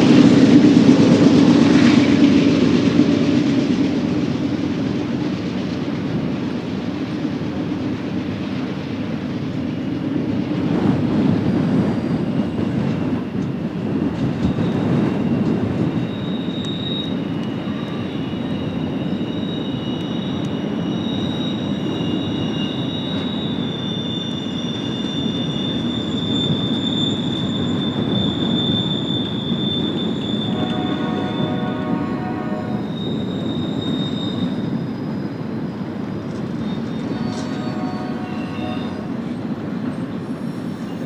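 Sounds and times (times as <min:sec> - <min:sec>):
freight train cars rumbling: 0:00.0 - 0:41.0
high wheel squeal: 0:04.0 - 0:41.0.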